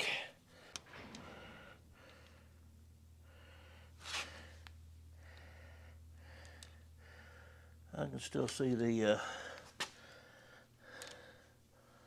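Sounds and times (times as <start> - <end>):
man breathing: 0.0 - 7.9, 9.2 - 12.0
steady low hum: 0.0 - 12.0.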